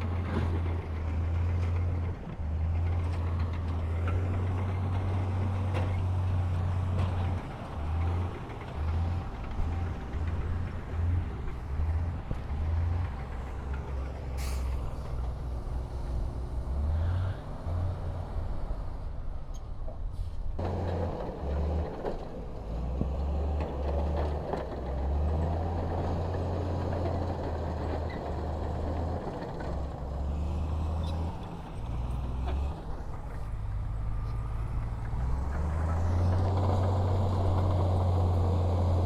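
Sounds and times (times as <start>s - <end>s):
diesel machinery engine rumbling: 0.0s - 39.0s.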